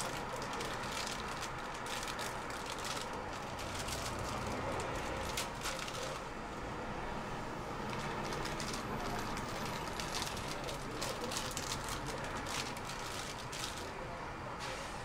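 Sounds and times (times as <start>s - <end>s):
faint voices: 0.0s - 15.0s
steady background noise: 0.0s - 15.0s.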